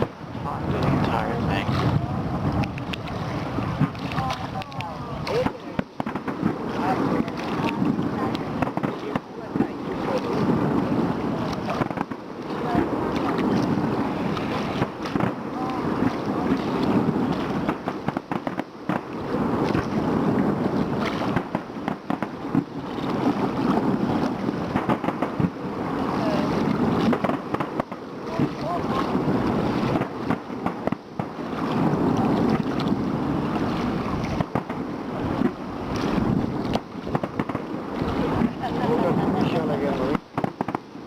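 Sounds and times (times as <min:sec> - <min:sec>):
fireworks bangs and crackles: 0:05.2 - 0:41.0.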